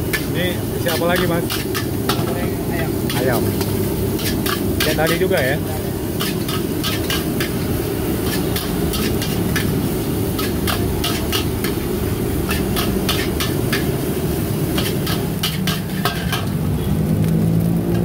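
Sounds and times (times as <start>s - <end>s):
metal spatula scraping wok: 0.0s - 16.8s
food sizzling: 0.0s - 18.0s.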